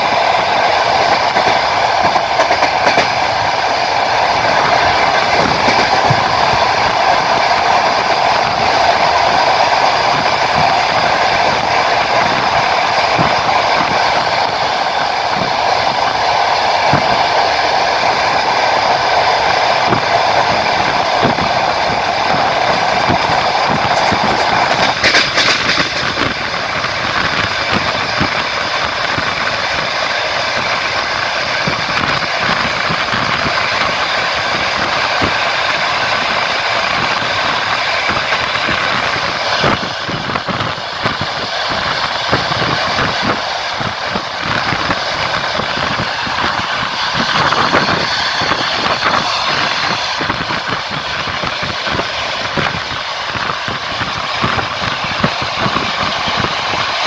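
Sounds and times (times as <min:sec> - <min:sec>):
clacks over rail joints: 0:00.0 - 0:57.0
train clatter: 0:00.0 - 0:57.0
train wheels rumbling on track: 0:00.0 - 0:57.0.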